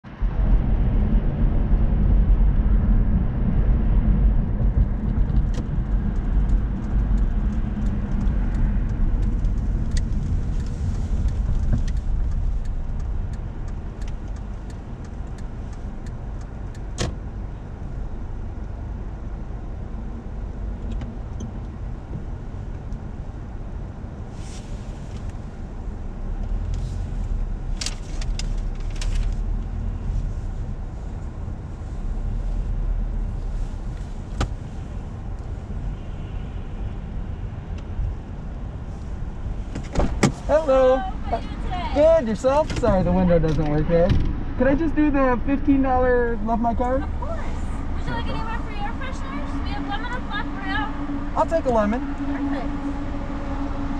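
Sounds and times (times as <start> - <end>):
car engine and tyre rumble: 0.0 - 53.9.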